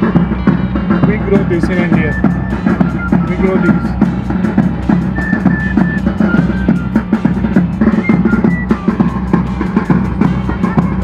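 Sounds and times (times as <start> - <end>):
high melody line: 0.0 - 11.0
quick drum beat: 0.0 - 11.0.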